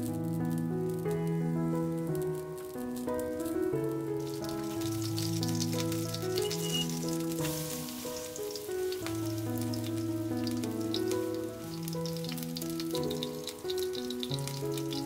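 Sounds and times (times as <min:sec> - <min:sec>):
batter sizzling in a pan: 0:00.0 - 0:15.0
instrumental background music: 0:00.0 - 0:15.0.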